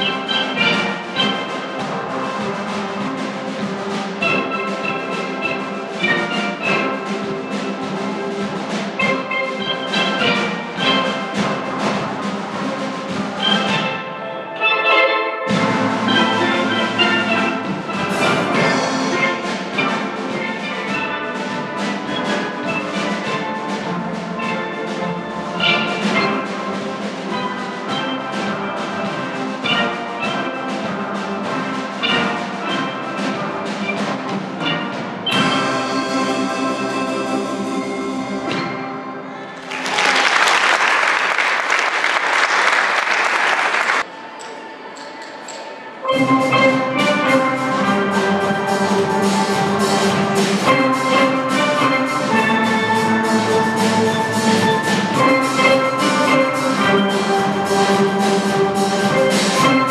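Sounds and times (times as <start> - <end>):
steel drum band playing: 0.0 - 59.9.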